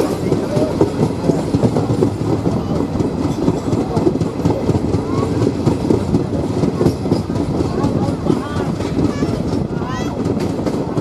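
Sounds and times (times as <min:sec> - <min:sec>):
train wheels clattering over rails: 0:00.0 - 0:11.0.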